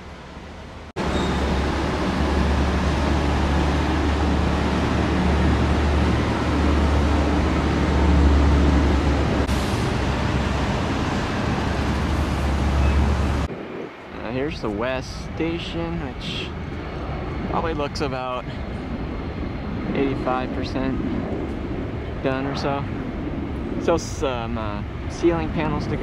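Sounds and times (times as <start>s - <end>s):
road traffic engine rumble: 0.0s - 25.9s.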